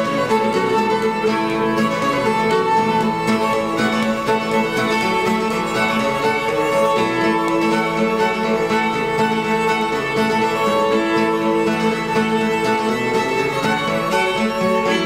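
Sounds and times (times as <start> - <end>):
acoustic guitar: 0.0 - 15.0
fiddle playing: 0.0 - 15.0.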